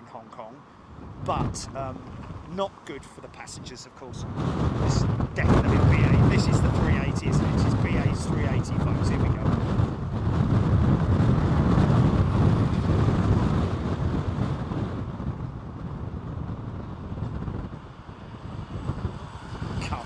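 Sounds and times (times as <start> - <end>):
wind buffeting microphone: 0.8 - 20.0.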